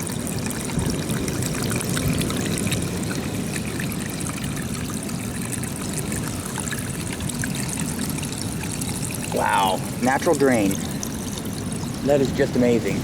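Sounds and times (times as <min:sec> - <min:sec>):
water pouring down a hole: 0:00.0 - 0:13.0.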